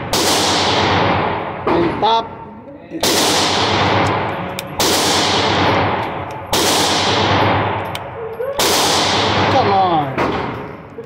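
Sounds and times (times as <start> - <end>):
handgun shots echoing: 0.0 - 2.0, 3.0 - 10.9.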